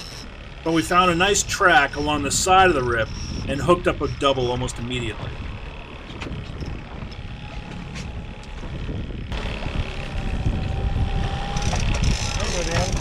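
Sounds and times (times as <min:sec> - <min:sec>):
outboard motor running: 0:00.0 - 0:13.0
sea noise: 0:00.0 - 0:13.0
wind: 0:00.0 - 0:13.0.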